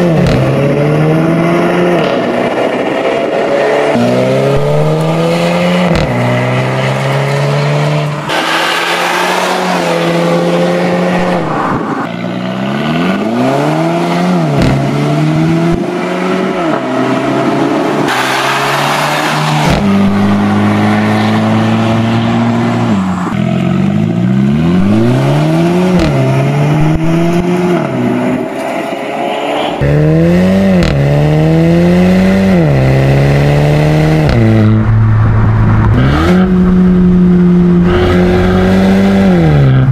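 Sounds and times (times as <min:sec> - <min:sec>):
car engine accelerating hard: 0:00.0 - 0:28.4, 0:29.8 - 0:39.9.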